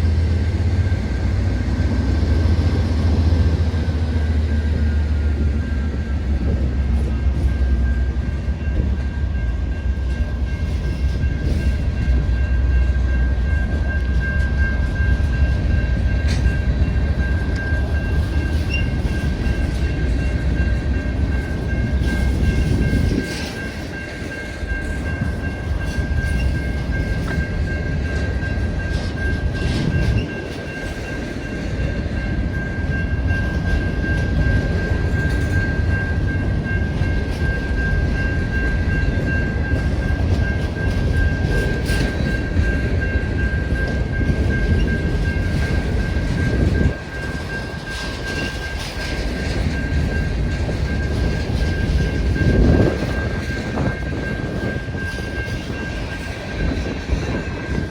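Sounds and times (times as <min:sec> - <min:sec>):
train cars rumbling past: 0:00.0 - 0:57.9.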